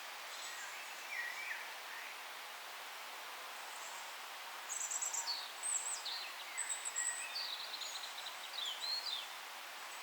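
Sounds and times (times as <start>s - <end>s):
forest background noise: 0.0s - 10.0s.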